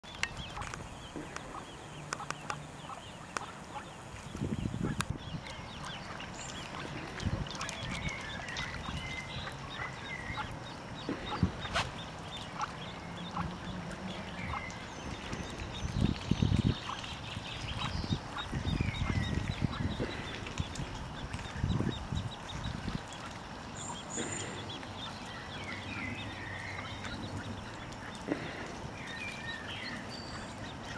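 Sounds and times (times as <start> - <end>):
ducklings peeping: 0.0 - 30.9.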